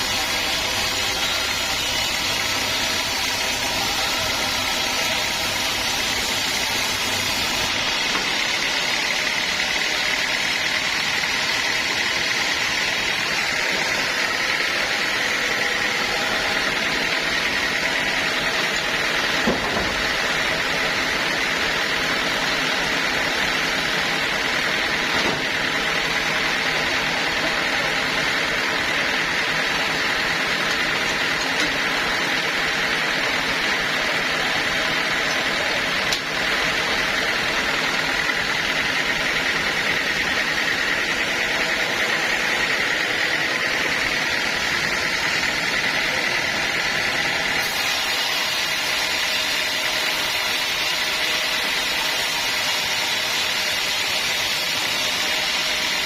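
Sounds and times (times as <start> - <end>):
sawmill machinery whining: 0.0 - 56.0.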